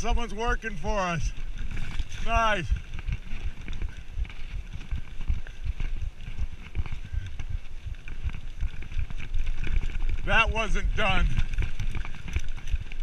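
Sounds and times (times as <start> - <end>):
mountain bike thumps and rattles: 1.6 - 13.0.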